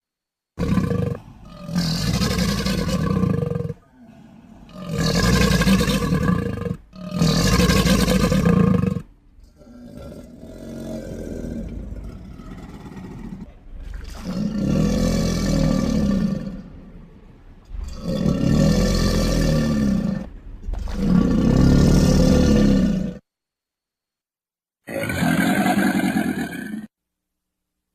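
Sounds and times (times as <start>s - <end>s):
deep creature roars: 0.6s - 23.2s, 24.9s - 26.9s.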